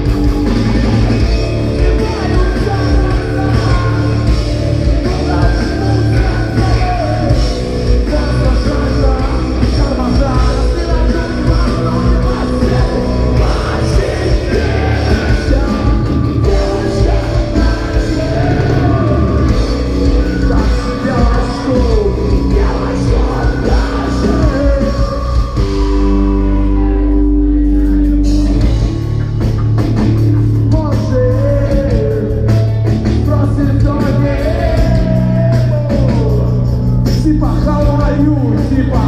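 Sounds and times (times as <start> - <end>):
rock band playing live: 0.0 - 39.0
person singing: 1.7 - 28.7, 30.7 - 39.0.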